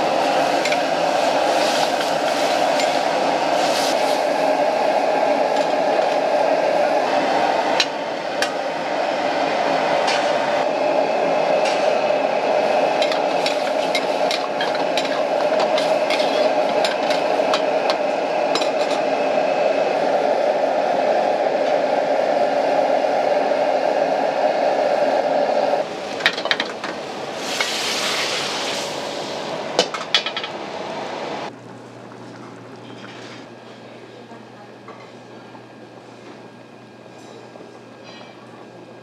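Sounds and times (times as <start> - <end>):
gas burner rushing: 0.0 - 34.0.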